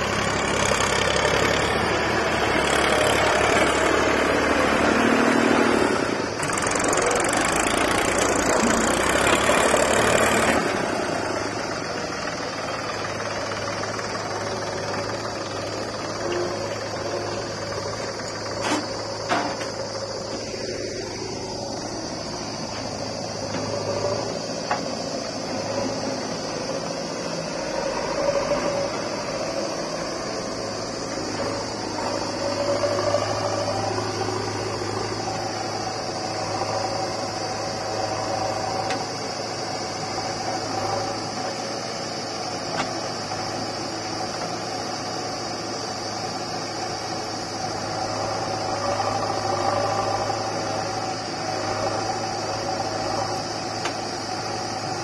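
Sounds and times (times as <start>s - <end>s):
diesel engines droning: 0.0s - 55.0s
steady high hiss: 0.0s - 55.0s.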